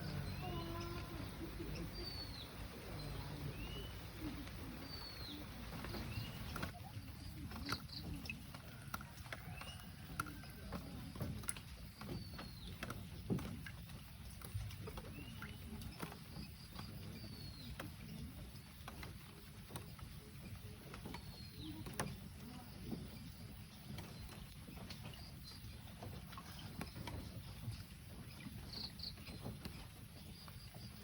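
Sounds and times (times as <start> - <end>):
rain drips and ticks: 0.0 - 31.0.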